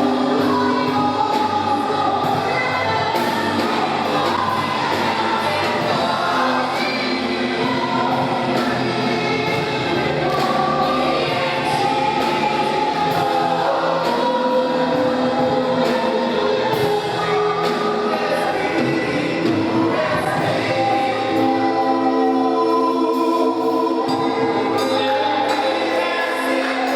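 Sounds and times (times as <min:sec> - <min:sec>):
band accompaniment: 0:00.0 - 0:26.9
choir singing gospel song: 0:00.0 - 0:26.9.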